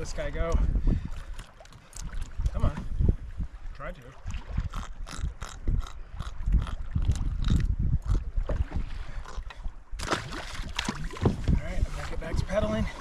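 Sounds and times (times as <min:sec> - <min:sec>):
wind buffeting microphone: 0:00.0 - 0:13.0
water splashing against kayak: 0:00.4 - 0:13.0.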